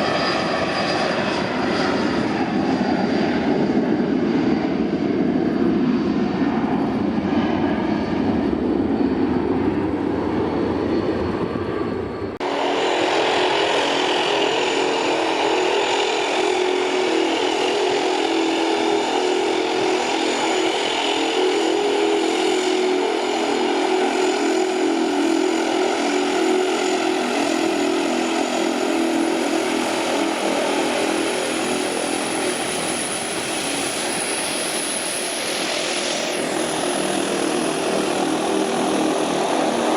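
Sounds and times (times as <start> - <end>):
jet engines running: 0.0 - 39.9
turboprop engines and propellers: 0.0 - 39.9.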